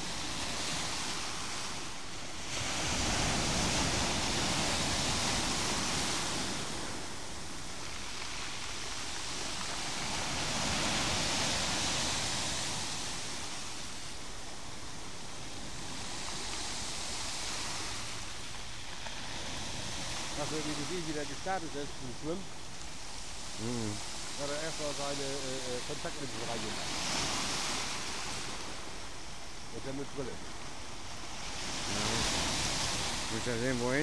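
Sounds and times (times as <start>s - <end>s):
waves breaking on stony shore: 0.0s - 34.0s.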